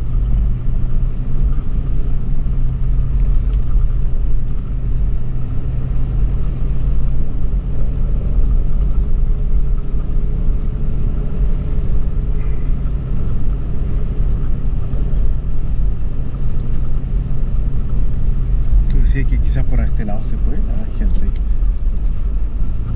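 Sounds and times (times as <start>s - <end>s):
suv engine driving on sand: 0.0s - 22.9s.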